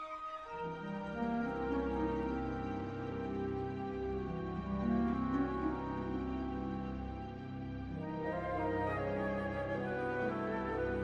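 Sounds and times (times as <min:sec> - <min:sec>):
orchestra playing slow chords: 0:00.8 - 0:11.0.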